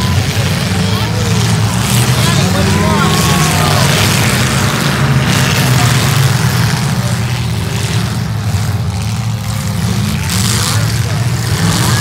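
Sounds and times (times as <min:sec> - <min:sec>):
car engines rumbling roughly: 0:00.0 - 0:12.0.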